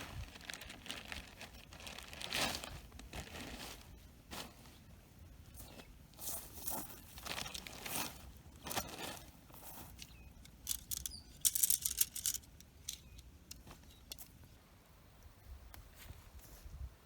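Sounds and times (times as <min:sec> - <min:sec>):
crackly rustling: 0:00.0 - 0:04.9, 0:05.5 - 0:14.6.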